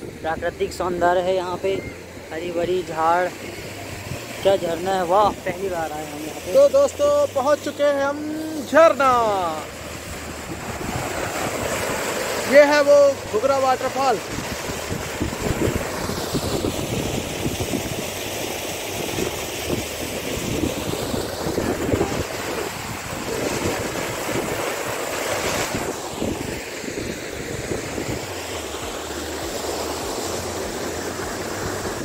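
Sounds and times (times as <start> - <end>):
wind buffeting microphone: 0.0 - 29.8
waterfall rushing: 0.0 - 32.0.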